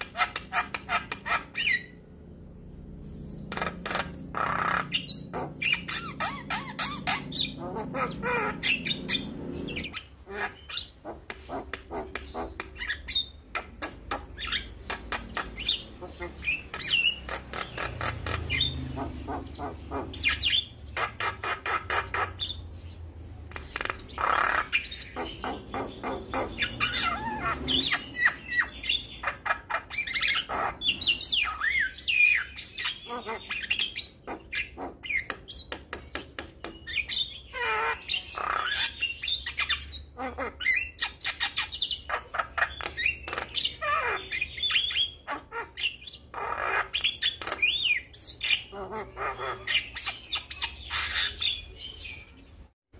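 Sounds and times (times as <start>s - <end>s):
bird song with chatter and whistles: 2.8s - 52.7s.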